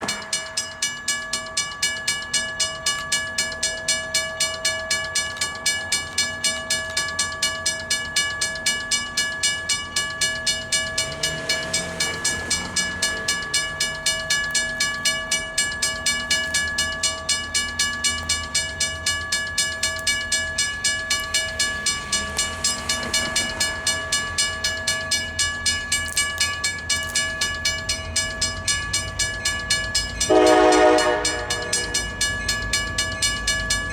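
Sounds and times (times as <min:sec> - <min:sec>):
railroad crossing bell ringing: 0:00.0 - 0:33.9
diesel locomotive rumble: 0:05.5 - 0:33.9.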